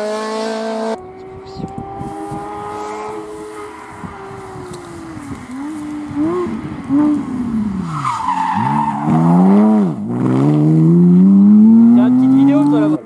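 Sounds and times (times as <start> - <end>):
rally car engine braking and accelerating: 1.8 - 13.0.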